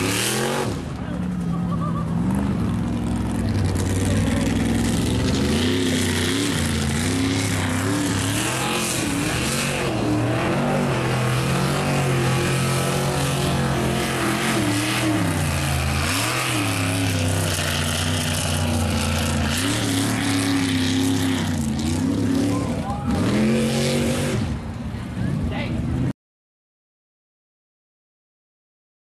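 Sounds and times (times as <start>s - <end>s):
truck engine revving hard: 0.0s - 26.1s.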